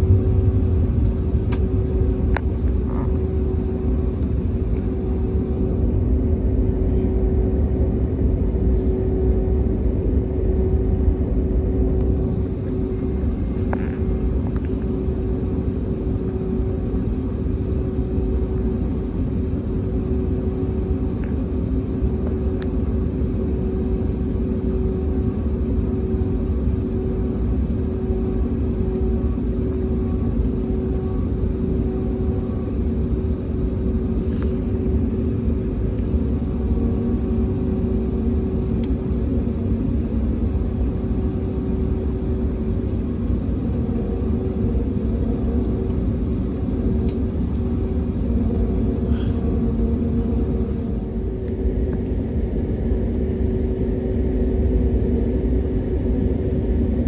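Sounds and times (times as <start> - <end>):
aircraft cabin rumble: 0.0 - 57.0
constant droning tone: 0.0 - 57.0.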